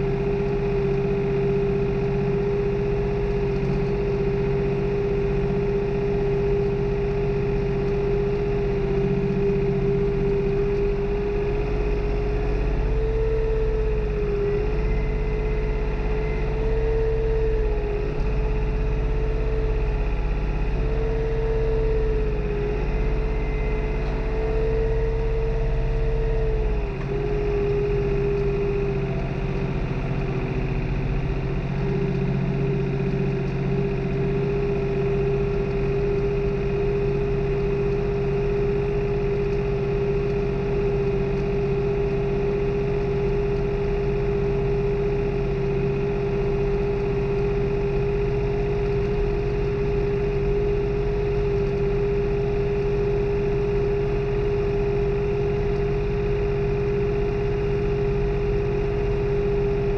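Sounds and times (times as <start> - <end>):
steady whine: 0.0 - 59.9
tractor diesel engine running: 0.0 - 59.9.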